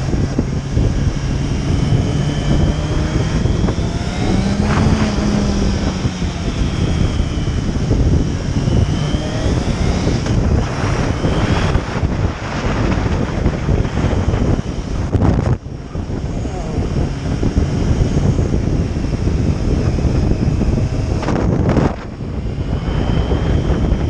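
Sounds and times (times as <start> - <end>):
motorcycle engine running: 0.0 - 24.0
wind noise on microphone: 0.0 - 24.0.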